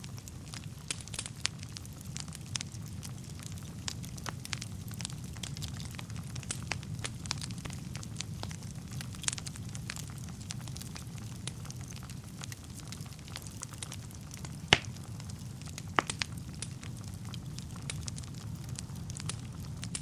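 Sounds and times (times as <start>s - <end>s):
crackles and pops of burning wood: 0.0s - 20.0s
fire burning: 0.0s - 20.0s.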